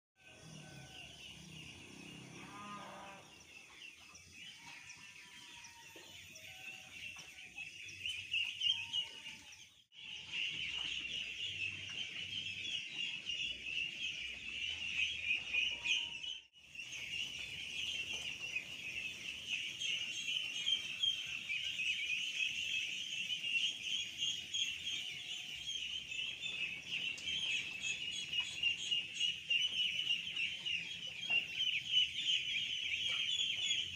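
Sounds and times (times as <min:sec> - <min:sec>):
ducklings peeping: 0:03.3 - 0:33.9.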